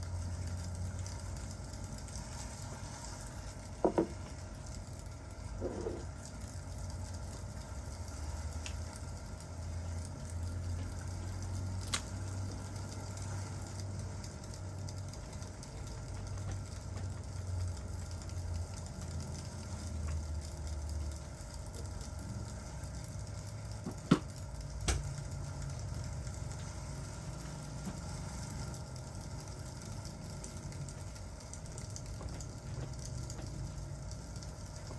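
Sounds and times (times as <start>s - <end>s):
fireplace crackling: 0.0s - 23.3s, 24.4s - 34.9s
rain hissing: 0.0s - 34.9s.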